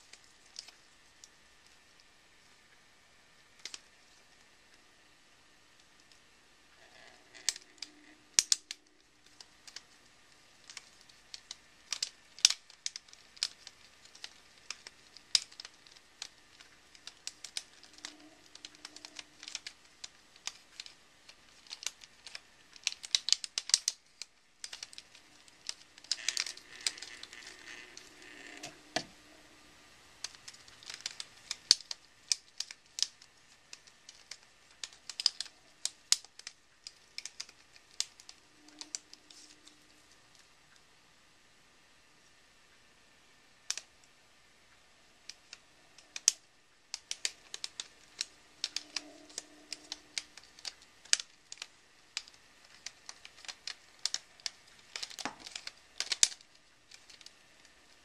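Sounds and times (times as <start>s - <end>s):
plastic puzzle clicking and rattling: 0.0s - 2.1s, 3.5s - 4.3s, 6.8s - 29.1s, 30.2s - 40.4s, 43.6s - 43.9s, 45.2s - 58.0s.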